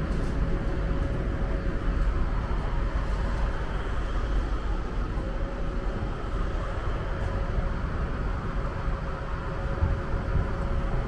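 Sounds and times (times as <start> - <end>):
train rumbling inside carriage: 0.0 - 11.0.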